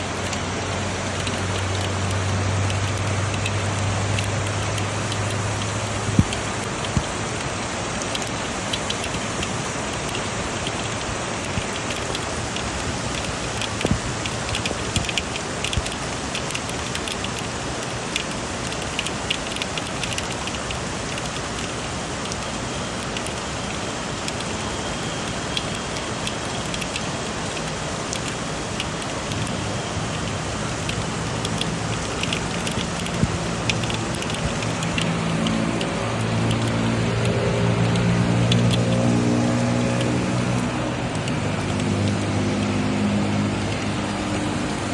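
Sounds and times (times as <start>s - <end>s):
drips and splatters: 0.0s - 44.9s
steady rain falling: 0.0s - 44.9s.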